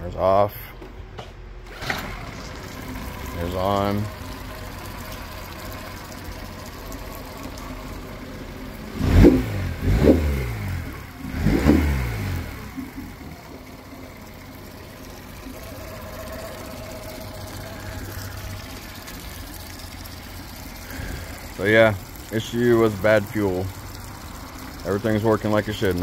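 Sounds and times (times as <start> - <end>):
outboard motor idling and revving: 1.7 - 26.0.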